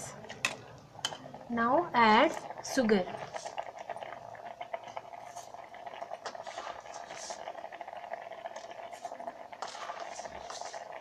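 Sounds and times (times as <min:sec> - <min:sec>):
water bubbling in a kettle: 0:00.0 - 0:11.0.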